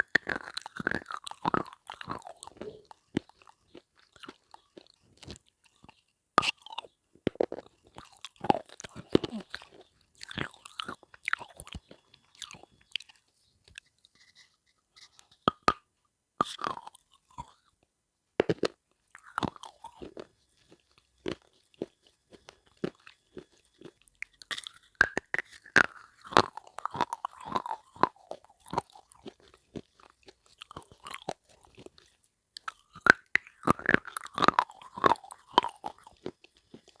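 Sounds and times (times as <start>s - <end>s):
crunchy chewing: 0.0s - 15.6s, 16.4s - 17.7s, 18.4s - 37.0s.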